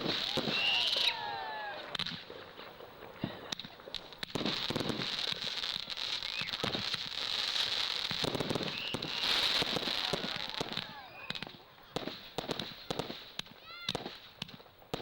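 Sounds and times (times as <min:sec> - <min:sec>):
fireworks crackling and fizzing: 0:00.0 - 0:15.0.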